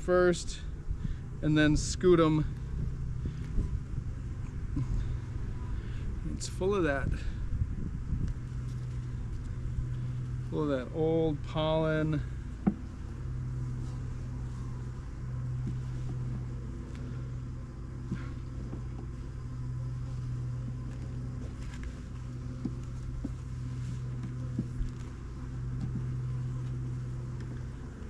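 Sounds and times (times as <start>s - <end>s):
honeybees buzzing: 0.7s - 28.0s.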